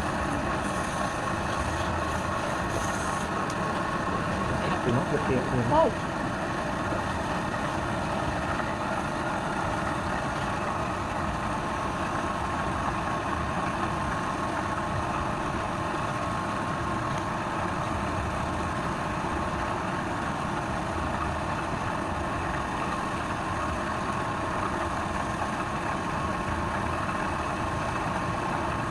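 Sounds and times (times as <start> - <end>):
lathe motor humming and whining: 0.0 - 28.9.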